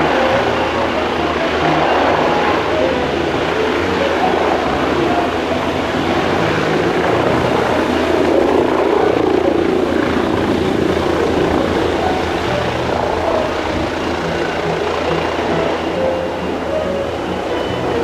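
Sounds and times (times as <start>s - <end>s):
helicopter rotor and turbine roar: 0.0s - 18.0s.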